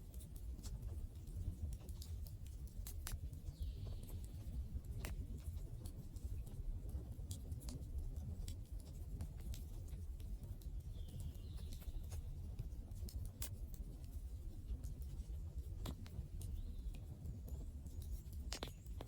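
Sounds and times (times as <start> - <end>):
fire crackles and pops: 0.1 - 19.0.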